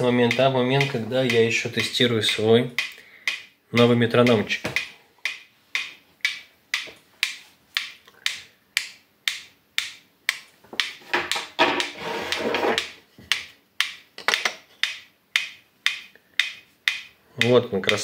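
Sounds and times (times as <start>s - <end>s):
metronome ticking: 0.0s - 18.0s.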